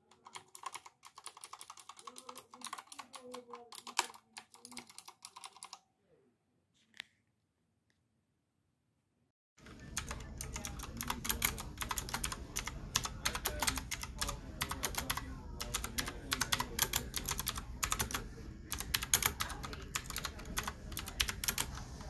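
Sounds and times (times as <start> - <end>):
mechanical keyboard typing clicks: 0.1 - 5.8, 9.6 - 21.8.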